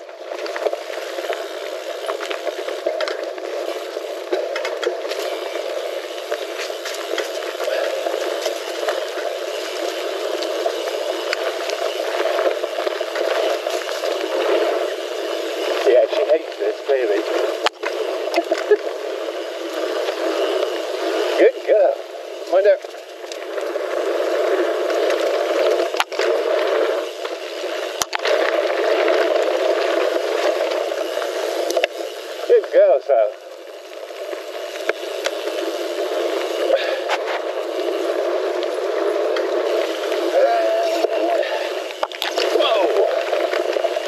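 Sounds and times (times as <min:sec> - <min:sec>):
bike clicks and rattles: 0:00.0 - 0:44.0
wind and rolling tyres: 0:00.0 - 0:44.0.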